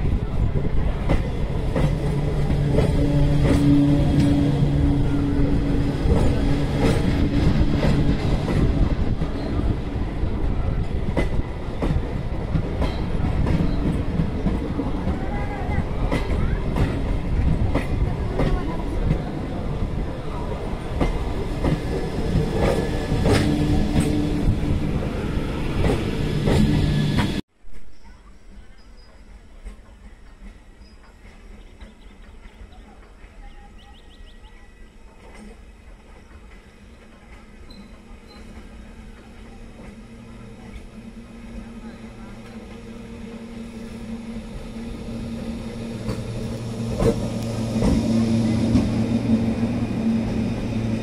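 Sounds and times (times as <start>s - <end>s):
train rumbling past: 0.0s - 27.4s, 28.0s - 51.0s.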